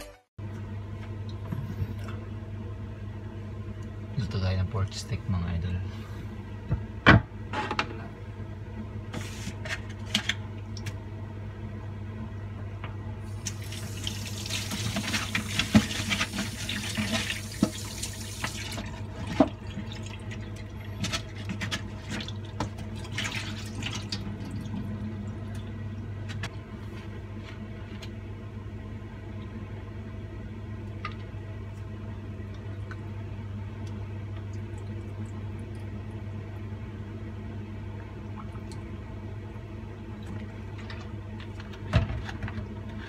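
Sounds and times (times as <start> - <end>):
steady low hum: 0.4 - 43.0.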